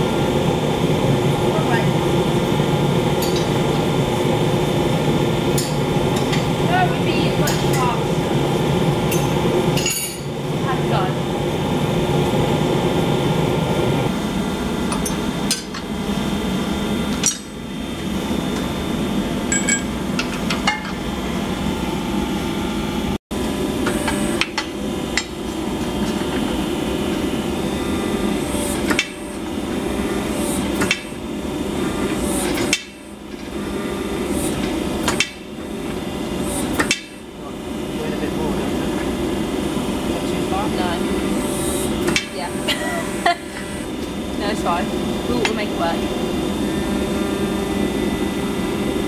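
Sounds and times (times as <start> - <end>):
steady mechanical roar: 0.0 - 49.0.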